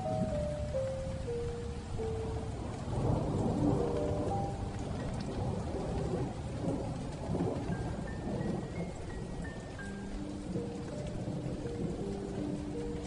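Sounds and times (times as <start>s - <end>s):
heavy rain: 0.0s - 13.0s
soft melodic notes: 0.0s - 13.0s
thunder rumbling: 0.0s - 13.0s.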